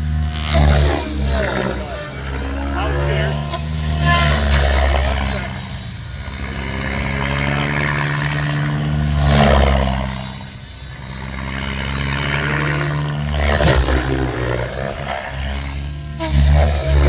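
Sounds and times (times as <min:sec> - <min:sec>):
model helicopter rotor hum: 0:00.0 - 0:17.0.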